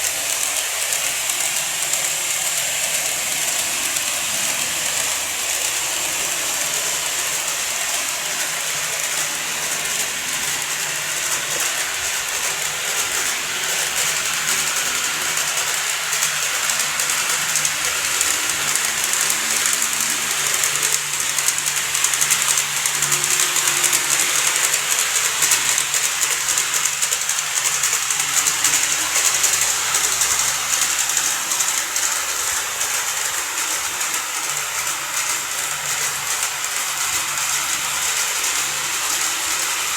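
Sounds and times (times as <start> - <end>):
fine rapid clicking: 0.0 - 39.9
model train running on track: 0.0 - 39.9.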